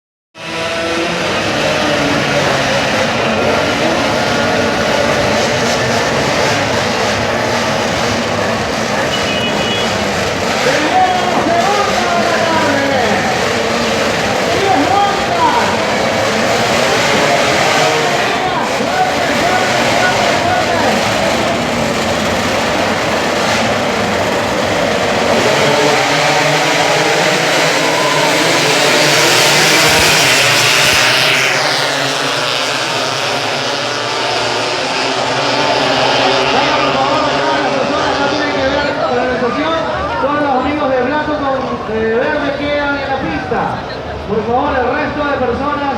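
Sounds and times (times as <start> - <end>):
racing motorcycle engines: 0.4 - 45.9.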